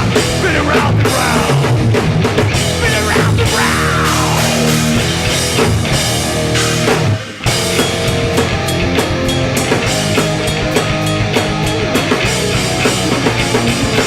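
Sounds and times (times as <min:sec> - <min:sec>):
drum hits: 0:00.0 - 0:14.0
punk band playing live: 0:00.0 - 0:14.0.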